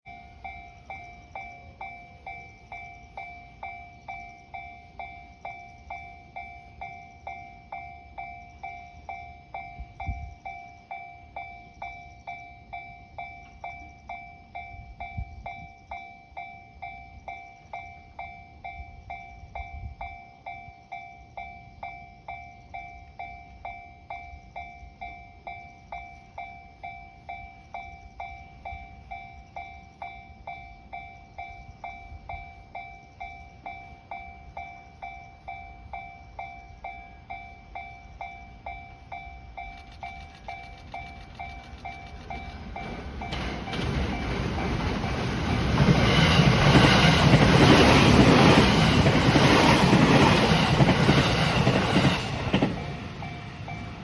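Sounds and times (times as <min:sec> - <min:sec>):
level-crossing alarm ringing: 0:00.0 - 0:54.0.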